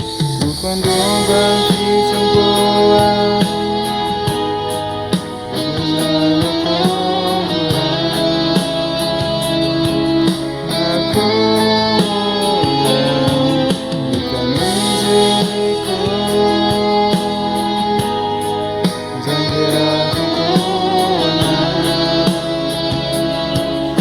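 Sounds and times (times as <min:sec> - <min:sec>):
guitar-led instrumental music: 0:00.0 - 0:24.0.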